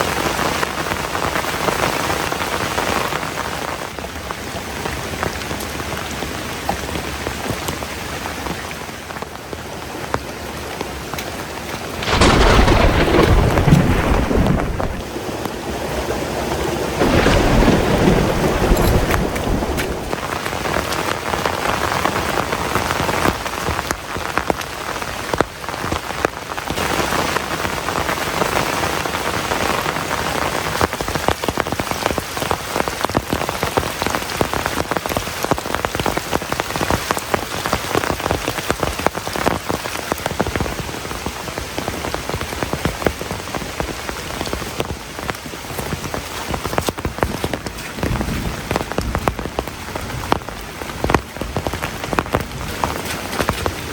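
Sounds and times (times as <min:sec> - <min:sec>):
heavy rain falling: 0:00.0 - 0:53.9
raindrops ticking on surface: 0:00.0 - 0:53.9.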